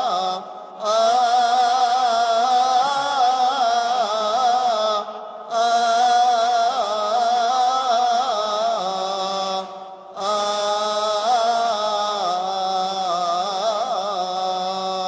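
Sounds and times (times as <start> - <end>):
man chanting solo: 0.0 - 15.0.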